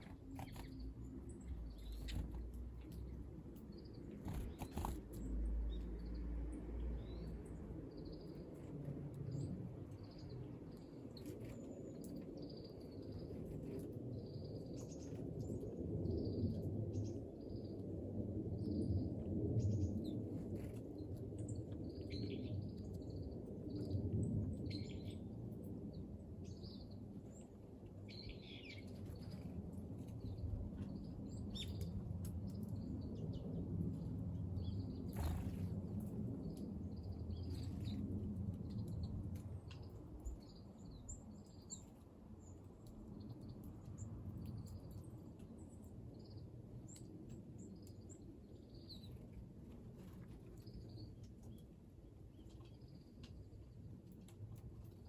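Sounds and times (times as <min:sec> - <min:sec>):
songbirds chirping: 0:00.0 - 0:17.8, 0:19.6 - 0:53.9.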